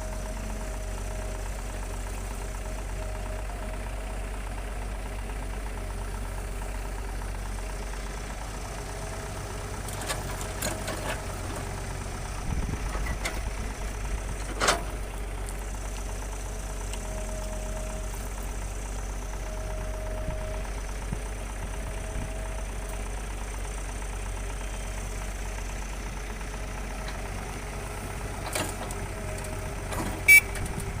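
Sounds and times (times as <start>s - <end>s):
heavy machinery diesel engine: 0.0s - 31.0s.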